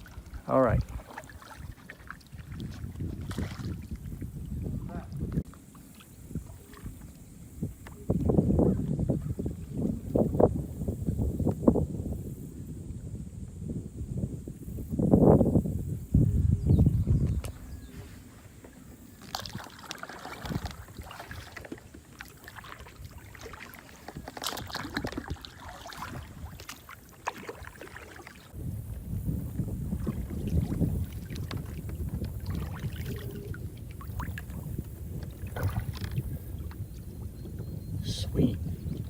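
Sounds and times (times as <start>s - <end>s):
wind buffeting microphone: 0.0s - 5.5s, 6.1s - 18.6s, 19.3s - 39.0s
paddle splashing in water: 0.0s - 11.7s, 17.2s - 39.0s.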